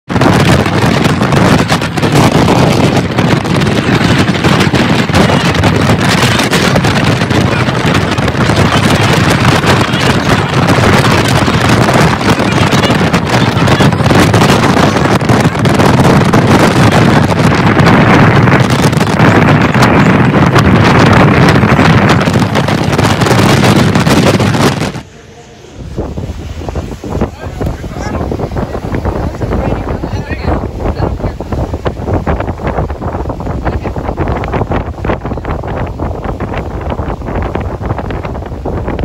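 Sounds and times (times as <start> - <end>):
car road noise: 0.1 - 39.0
wind buffeting microphone: 0.1 - 39.0.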